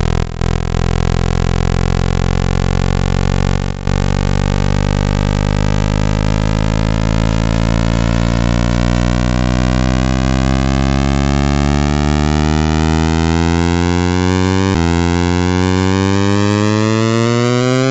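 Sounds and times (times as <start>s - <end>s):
rising sustained electronic tones: 0.0s - 17.9s.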